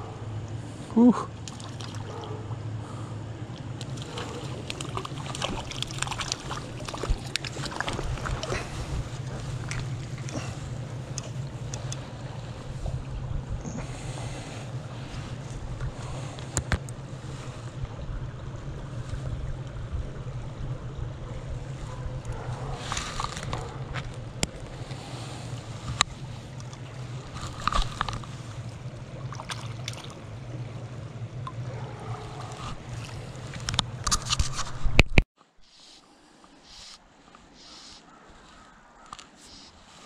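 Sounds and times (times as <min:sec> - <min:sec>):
stream water rushing: 0:00.0 - 0:34.7
wind rumbling on microphone: 0:02.0 - 0:35.2.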